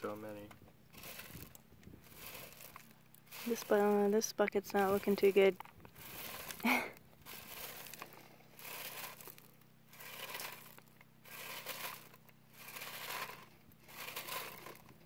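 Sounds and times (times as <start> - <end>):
gravel rattling on wire screen: 0.0 - 15.0.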